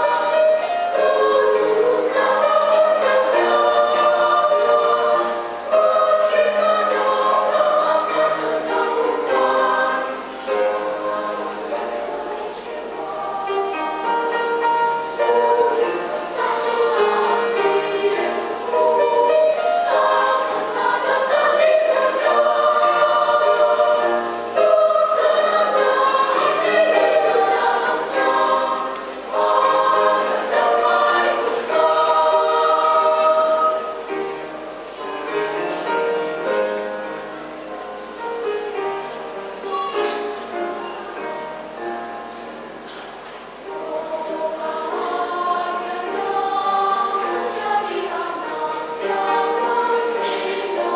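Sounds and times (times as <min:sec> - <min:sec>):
children's choir singing: 0:00.0 - 0:50.9.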